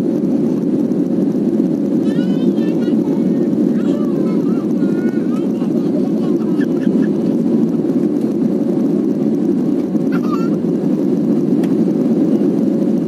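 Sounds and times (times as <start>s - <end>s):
jet engine and airflow roar: 0.0s - 13.0s.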